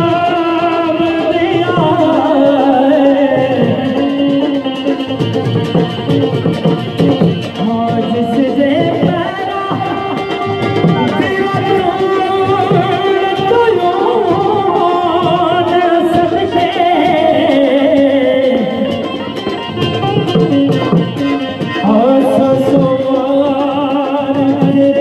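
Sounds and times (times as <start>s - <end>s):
man singing ornamented notes: 0.0s - 19.8s, 20.6s - 25.0s
accompanying instrument: 0.0s - 25.0s
hand drum: 0.0s - 25.0s.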